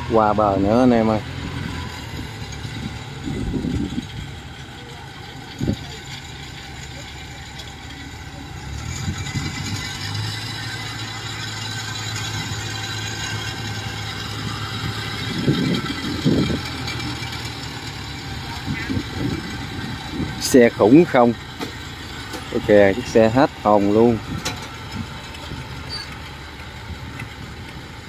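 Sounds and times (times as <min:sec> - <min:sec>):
farm machine engines running: 0:00.0 - 0:28.0
low engine note: 0:00.0 - 0:28.0.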